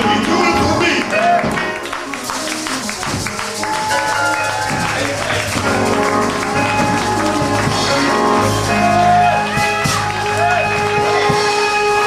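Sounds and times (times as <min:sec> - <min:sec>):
church music held chords: 0:00.0 - 0:12.0.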